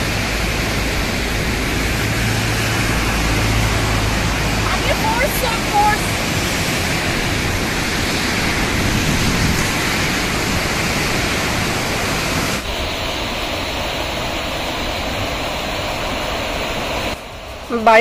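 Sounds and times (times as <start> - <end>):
falling water rushing: 0.0 - 18.0.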